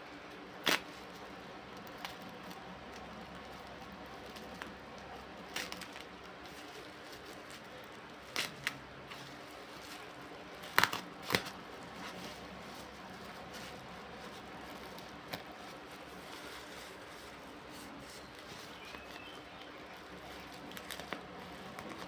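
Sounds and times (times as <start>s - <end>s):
low background hum: 0.0s - 22.0s
packaging clicks and crinkles: 0.3s - 22.0s.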